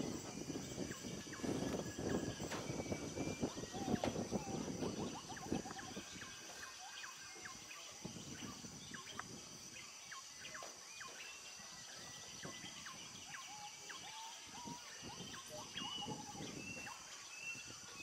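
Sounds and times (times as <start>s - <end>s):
birds whistling: 0.0s - 18.0s
high insect drone: 0.0s - 18.0s.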